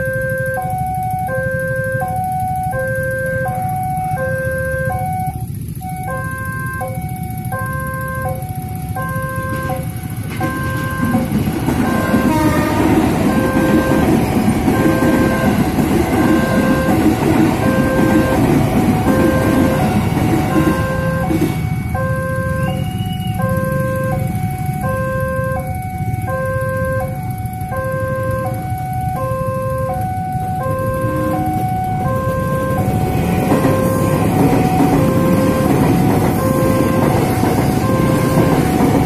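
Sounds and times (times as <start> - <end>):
motorcycle engines idling: 0.0 - 39.0
train rumbling: 0.0 - 39.0.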